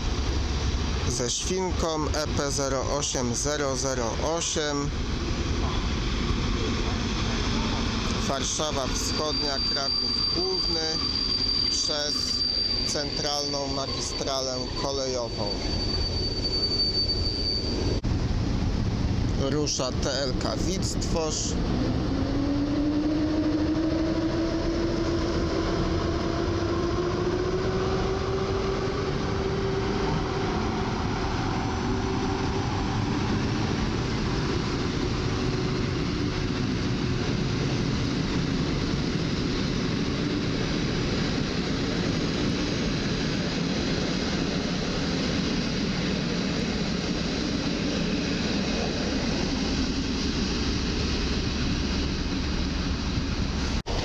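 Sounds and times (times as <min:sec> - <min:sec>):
electric locomotive whine rising: 0:00.0 - 0:54.0
train wheels rumbling on rails: 0:00.0 - 0:54.0.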